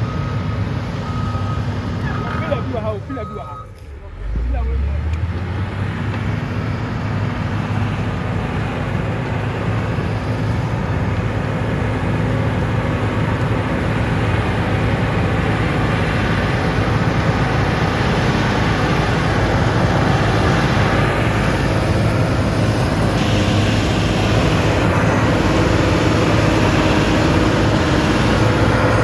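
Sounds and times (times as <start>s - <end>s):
large engine humming: 0.0s - 29.0s
rushing noise: 4.1s - 29.0s.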